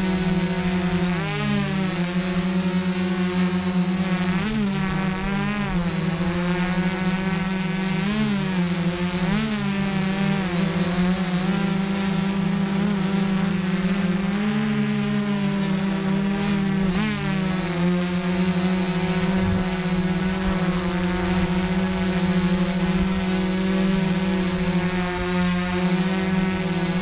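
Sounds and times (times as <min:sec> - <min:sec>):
drone motors buzzing whine: 0:00.0 - 0:27.0.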